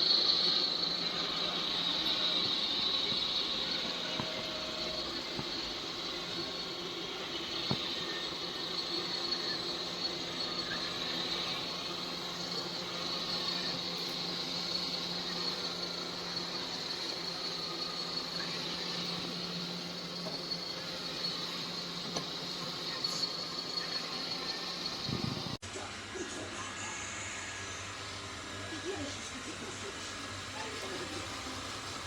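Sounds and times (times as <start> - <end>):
robot vacuum running: 0.0 - 25.6, 27.0 - 32.0.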